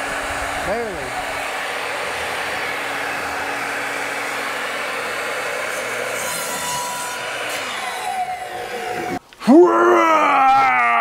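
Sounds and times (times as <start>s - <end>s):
miter saw cutting wood: 0.0s - 9.2s.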